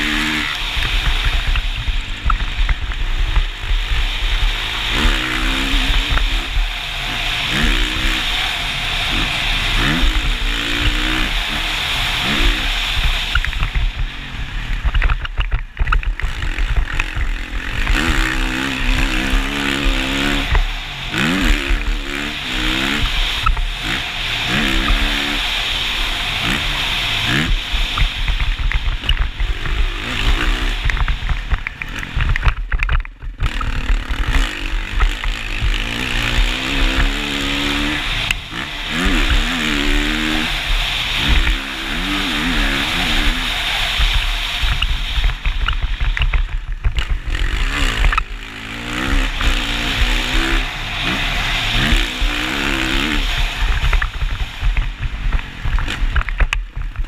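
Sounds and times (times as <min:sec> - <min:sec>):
motorcycle engine revving: 0:00.0 - 0:57.0
wind rushing over microphone: 0:00.0 - 0:57.0.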